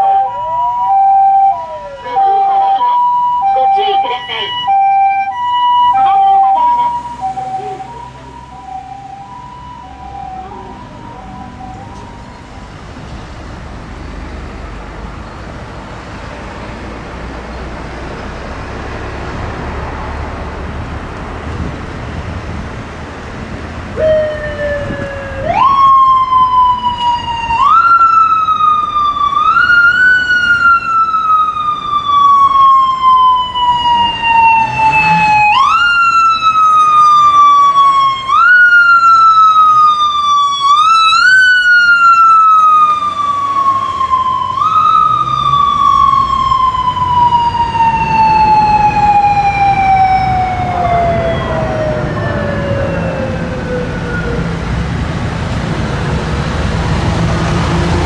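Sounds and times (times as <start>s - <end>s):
police siren wailing: 0.0s - 58.0s.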